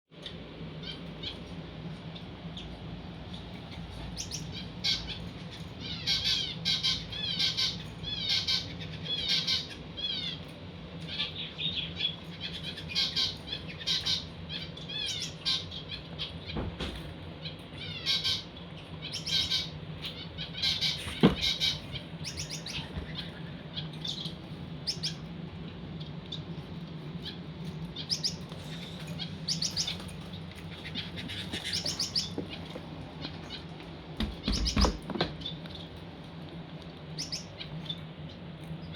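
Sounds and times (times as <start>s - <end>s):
finches chirping: 0.2s - 10.5s, 11.1s - 25.4s, 26.0s - 36.0s, 37.1s - 38.9s
steady low hum: 0.2s - 38.9s.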